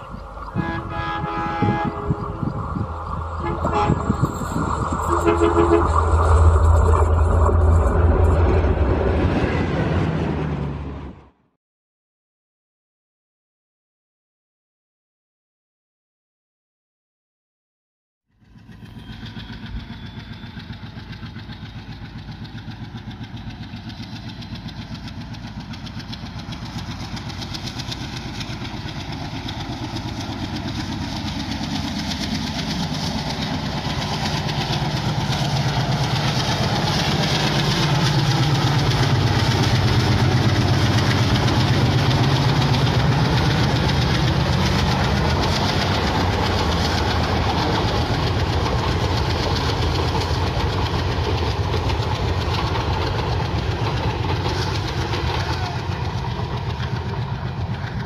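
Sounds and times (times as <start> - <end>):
diesel locomotive engine chugging: 0.0 - 11.4, 18.3 - 58.0.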